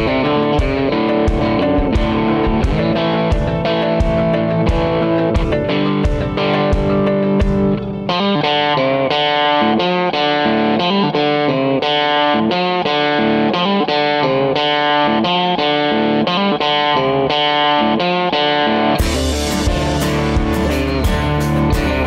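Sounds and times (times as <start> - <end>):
instrumental guitar music: 0.0 - 22.0.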